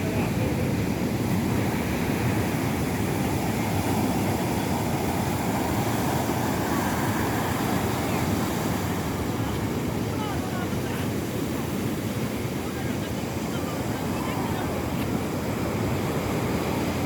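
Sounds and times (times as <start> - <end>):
sea surf breaking on beach: 0.0 - 17.0.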